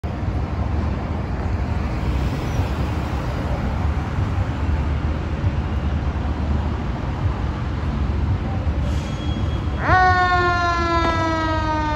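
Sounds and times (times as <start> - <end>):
city traffic rumble: 0.0 - 11.9.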